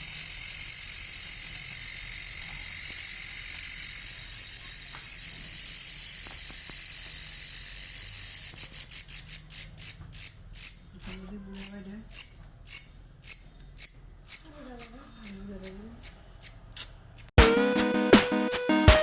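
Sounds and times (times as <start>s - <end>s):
cricket chirping: 0.0s - 17.3s.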